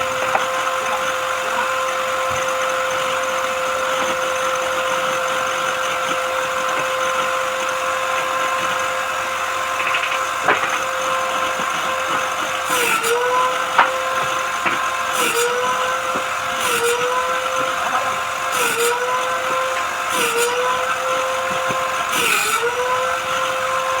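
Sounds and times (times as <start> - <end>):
power tool whining: 0.0 - 24.0.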